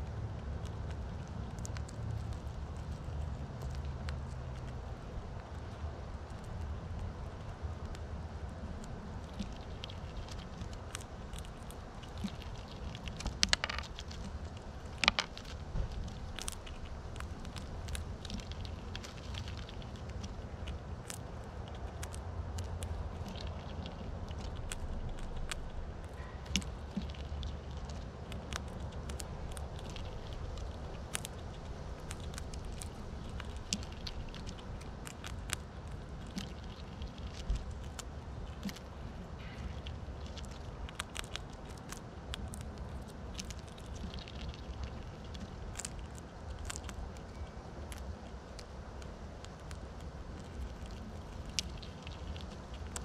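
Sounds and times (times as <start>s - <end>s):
low steady rumble: 0.0s - 53.0s
squirrels scrabbling: 0.0s - 53.0s.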